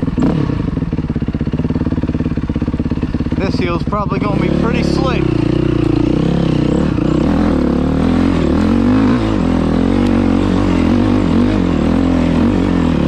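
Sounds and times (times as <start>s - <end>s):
dirt bike engine revving under load: 0.0s - 13.0s.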